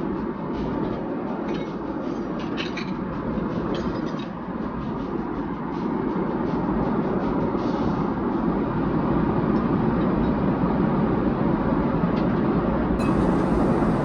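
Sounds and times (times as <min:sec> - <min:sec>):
airliner cabin engine drone: 0:00.0 - 0:14.0.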